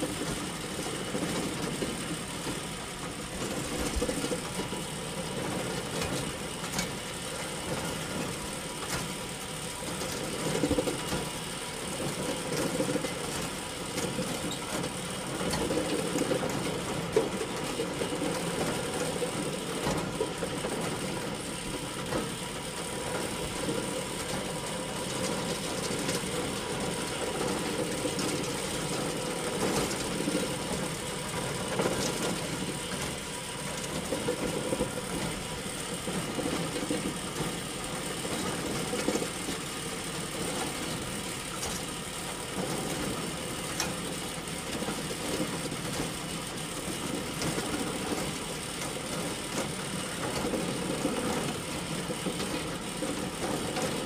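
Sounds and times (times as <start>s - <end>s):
bale elevator rattle and hum: 0.0s - 54.0s.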